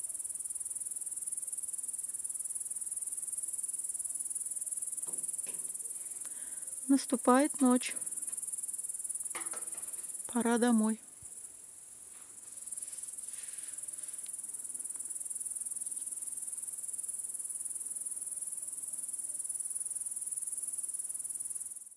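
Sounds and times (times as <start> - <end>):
crickets chirring: 0.0 - 21.9.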